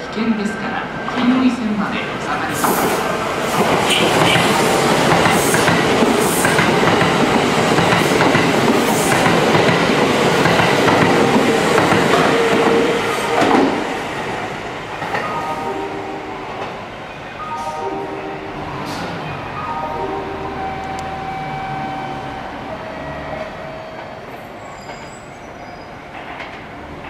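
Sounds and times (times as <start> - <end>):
electric train passing: 0.0 - 27.0.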